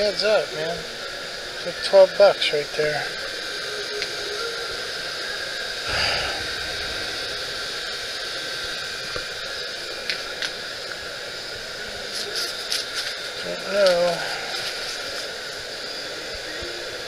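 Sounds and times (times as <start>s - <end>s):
store background hiss: 0.0s - 17.0s.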